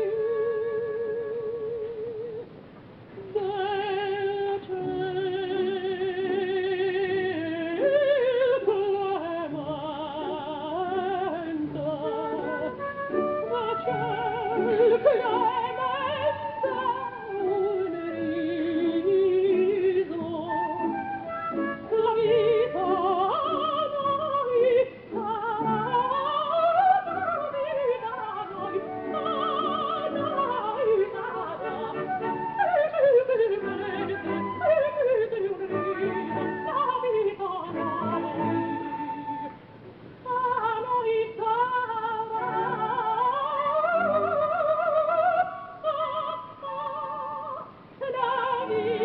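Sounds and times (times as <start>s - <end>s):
soprano singing opera: 0.0s - 2.6s, 3.2s - 49.0s.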